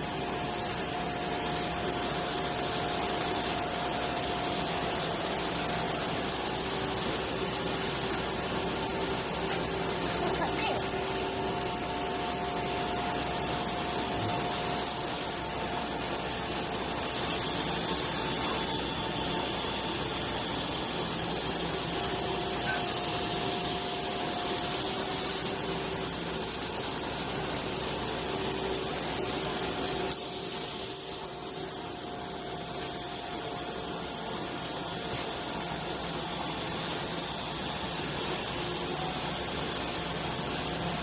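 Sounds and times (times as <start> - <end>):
glass grinding machine running: 0.0 - 41.0.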